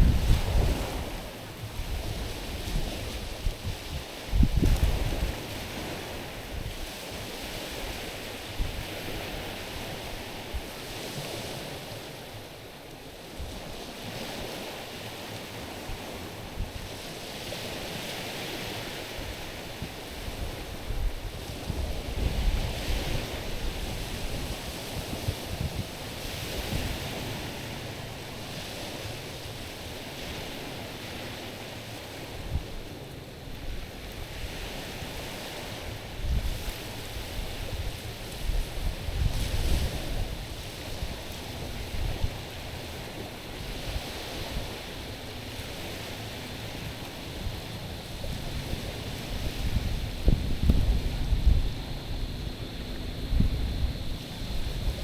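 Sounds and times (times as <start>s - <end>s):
wind buffeting microphone: 0.0s - 11.7s, 15.5s - 55.0s
waves washing over stony shore: 0.0s - 55.0s.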